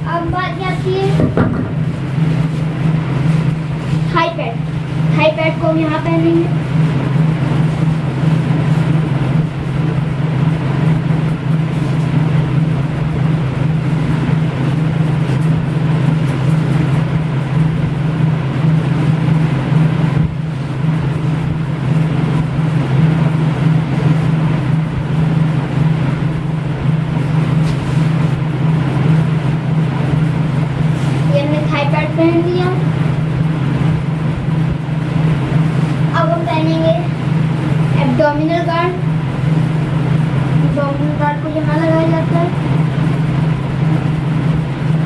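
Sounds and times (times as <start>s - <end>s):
low hum with hiss: 0.0s - 45.0s.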